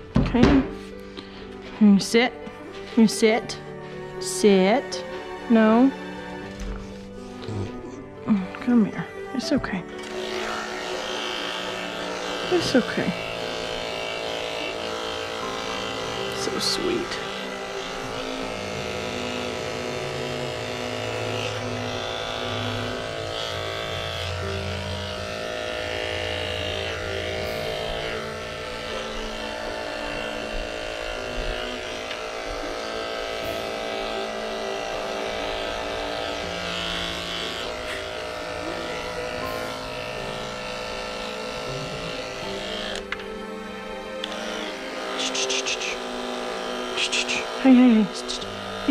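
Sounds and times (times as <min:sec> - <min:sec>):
electric dog clipper running: 0:00.0 - 0:48.9.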